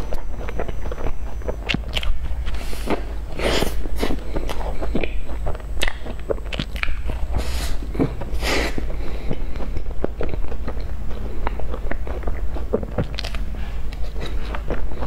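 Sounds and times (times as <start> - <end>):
chewing a bun: 0.0 - 15.0.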